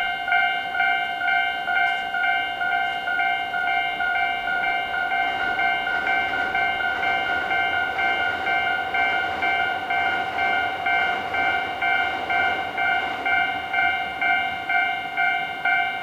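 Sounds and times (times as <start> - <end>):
level-crossing warning bell ringing: 0.0 - 16.0.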